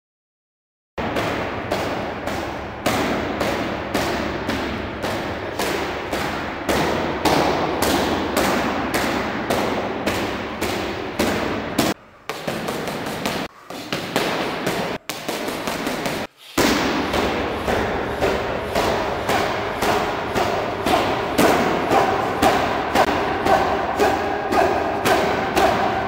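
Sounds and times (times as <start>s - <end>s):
kicks and punches smacking a pad: 1.0s - 26.0s.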